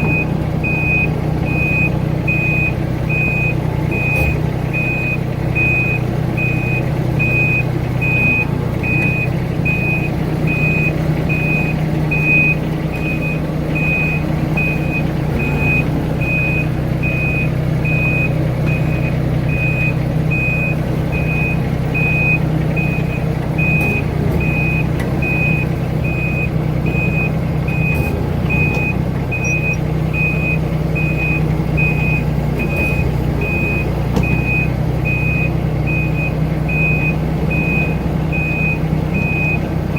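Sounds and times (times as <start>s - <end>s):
warning alarm beeping: 0.0s - 39.6s
diesel engine running: 0.0s - 39.9s.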